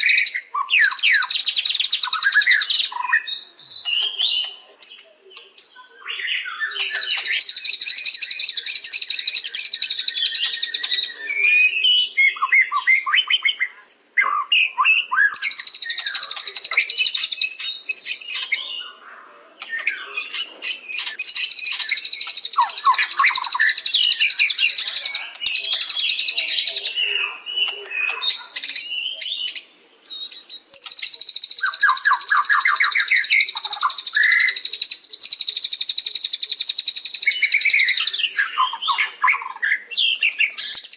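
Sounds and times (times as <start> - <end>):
bird singing chattering trills: 0.0 - 19.0, 19.6 - 40.9.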